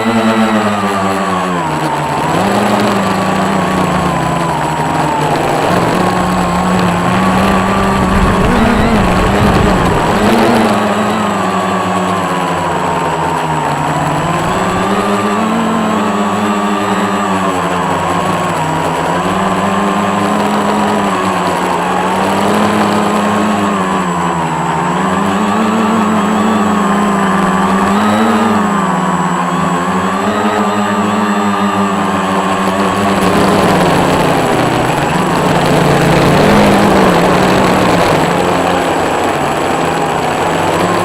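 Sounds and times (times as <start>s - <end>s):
quadcopter motors whining: 0.0s - 41.0s.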